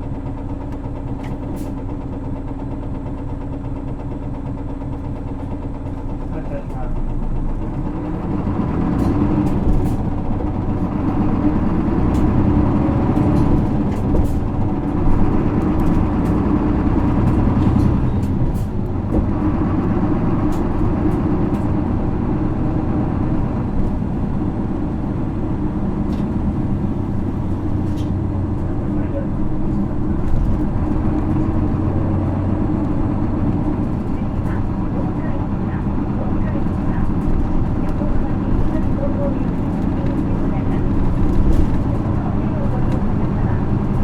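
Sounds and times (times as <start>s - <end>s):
diesel bus engine running: 0.0s - 44.0s.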